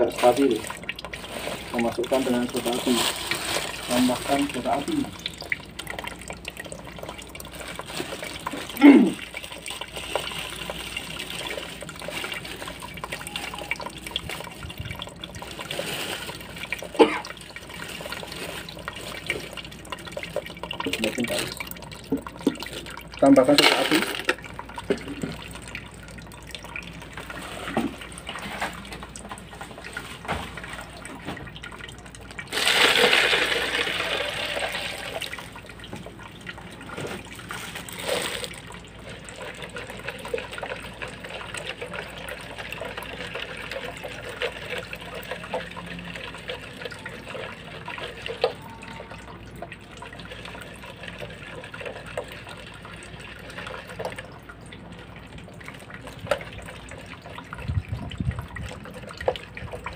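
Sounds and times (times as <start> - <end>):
liquid splashing into a tub: 0.0 - 59.9.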